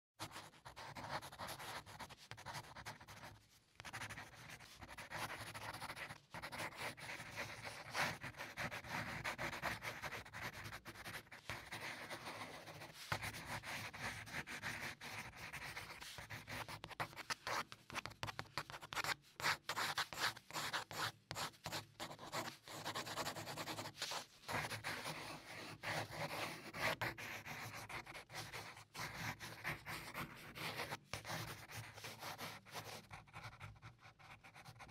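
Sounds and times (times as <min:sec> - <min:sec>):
pencil scratching on paper: 0:00.2 - 0:34.9.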